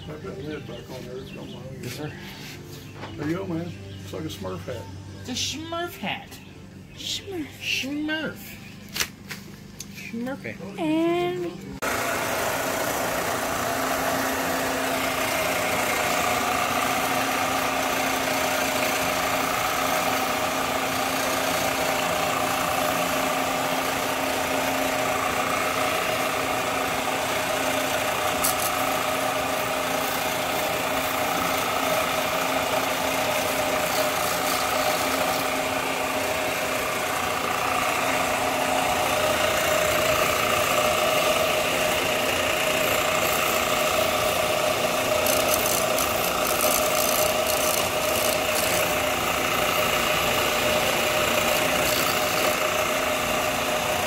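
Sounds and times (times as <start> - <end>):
motor running: 0.0 - 54.0.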